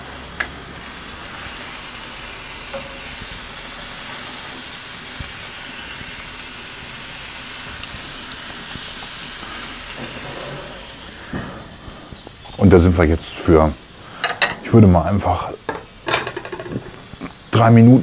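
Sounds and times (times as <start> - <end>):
meat sizzling on a griddle: 0.0 - 18.0.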